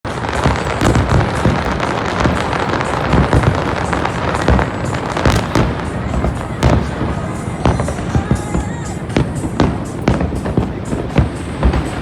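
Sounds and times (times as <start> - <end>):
firework crackling: 0.1 - 12.0
firework shells booming: 0.1 - 12.0.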